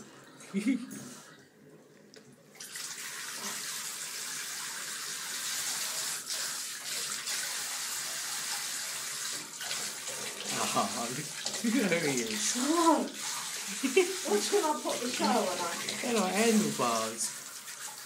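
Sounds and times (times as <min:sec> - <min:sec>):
shower spraying into bathtub: 0:02.6 - 0:18.0.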